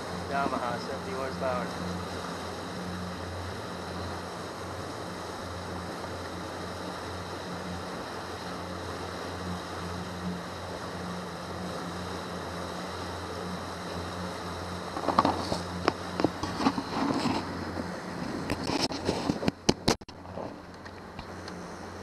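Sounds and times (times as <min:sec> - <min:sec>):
boat wake rushing water: 0:00.0 - 0:22.0
outboard motor drone: 0:00.0 - 0:22.0.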